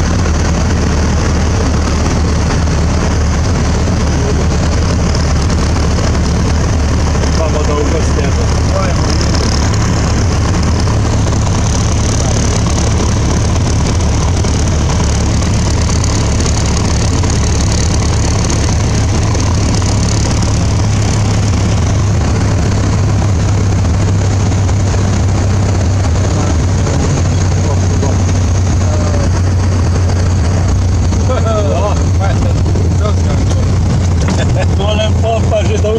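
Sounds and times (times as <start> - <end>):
airplane engine humming: 0.0 - 35.9
rushing air: 0.0 - 35.9.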